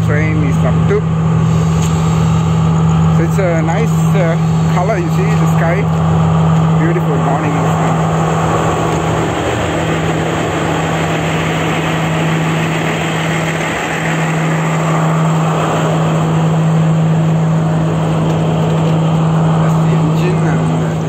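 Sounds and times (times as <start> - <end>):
diesel train engine idling: 0.0 - 21.0.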